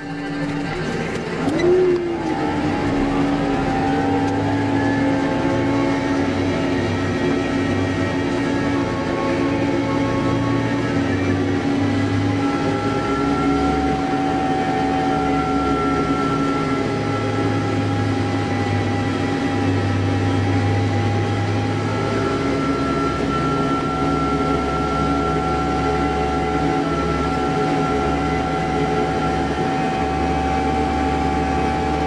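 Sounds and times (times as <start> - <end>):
diesel engine droning: 0.0 - 32.0
high drivetrain whine: 0.0 - 32.0.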